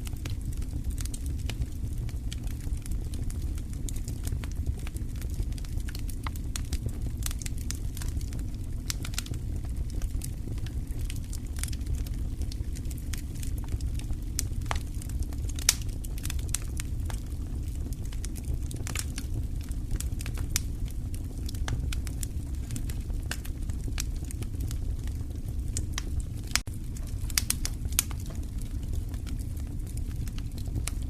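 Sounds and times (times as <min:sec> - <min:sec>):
low fire rumble: 0:00.0 - 0:31.0
wood fire crackling: 0:00.0 - 0:31.0
sharp fire pops: 0:00.1 - 0:31.0.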